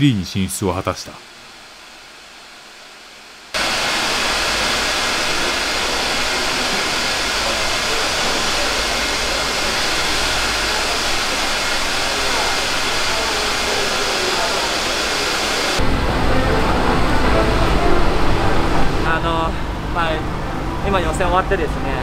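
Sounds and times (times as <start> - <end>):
steady rushing noise: 3.0 - 22.0.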